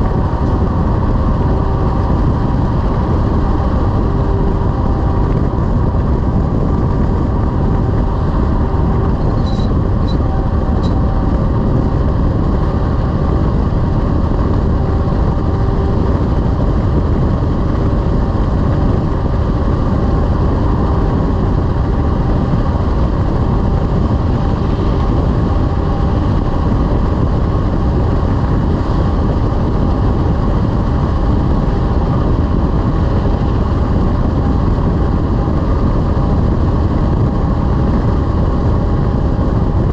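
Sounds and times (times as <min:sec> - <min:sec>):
road noise: 0:00.0 - 0:39.9
truck diesel engine: 0:00.0 - 0:39.9.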